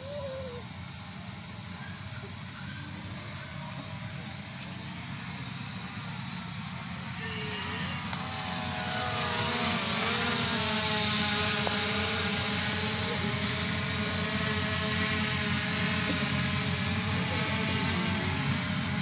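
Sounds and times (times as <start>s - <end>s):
drone propellers whirring: 0.0s - 19.0s.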